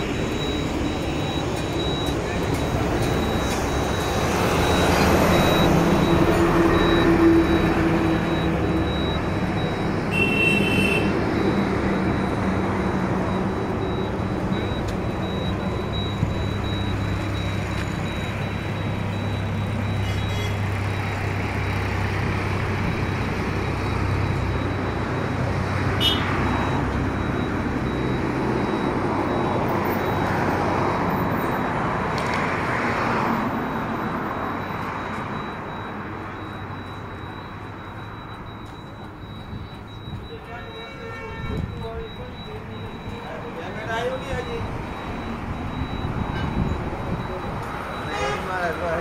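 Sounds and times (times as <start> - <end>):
vehicle engine hum: 0.0 - 40.4
road traffic noise: 0.0 - 49.0.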